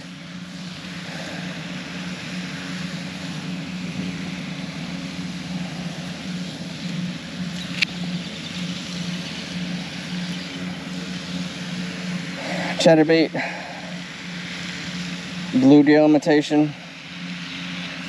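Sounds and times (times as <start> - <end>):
low motor drone: 0.0 - 18.0.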